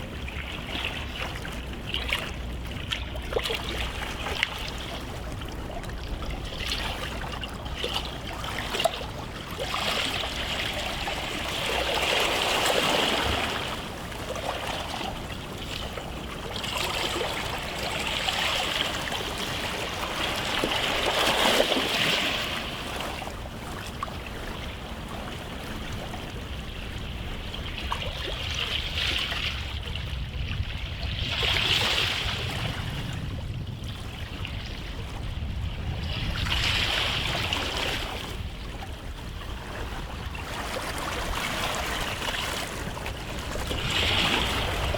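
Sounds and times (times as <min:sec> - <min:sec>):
sea waves washing onto shore: 0:00.0 - 0:44.9.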